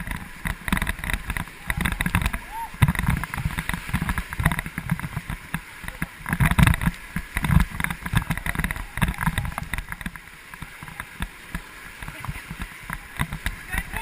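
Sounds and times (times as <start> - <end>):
knocks and bumps on raft: 0.0 - 14.0
river water rushing and splashing: 0.0 - 14.0.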